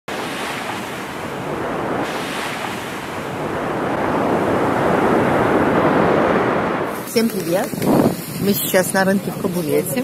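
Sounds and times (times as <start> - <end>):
waves washing on sand: 0.1 - 10.0
wind buffeting microphone: 0.1 - 10.0.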